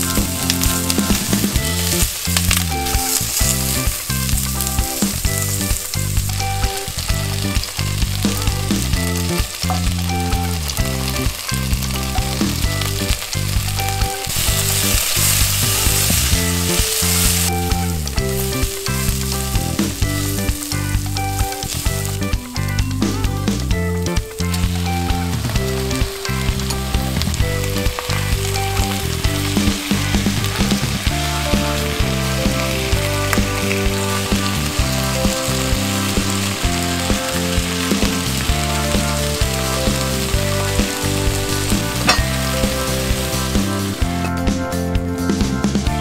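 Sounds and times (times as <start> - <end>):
onions sizzling in hot oil: 0.0 - 22.7, 24.3 - 44.1
background music: 0.0 - 46.0.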